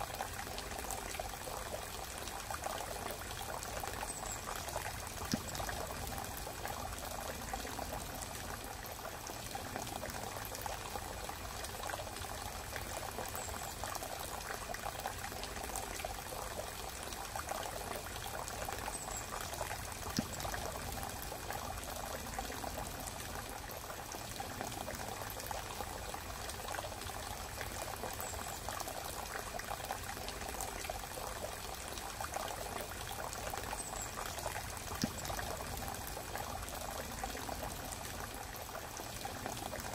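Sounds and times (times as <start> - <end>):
hissing trickling water: 0.0 - 39.9.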